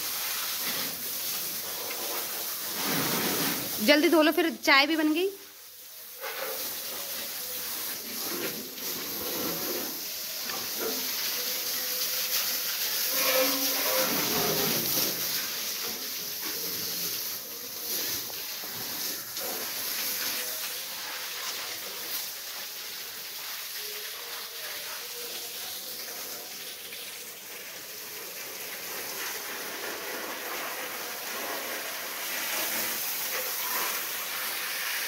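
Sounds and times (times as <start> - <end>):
hose water spraying and splashing: 0.0 - 35.0.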